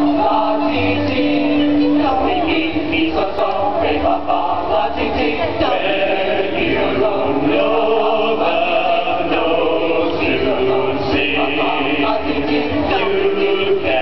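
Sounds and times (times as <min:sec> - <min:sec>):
men's chorus singing: 0:00.0 - 0:14.0.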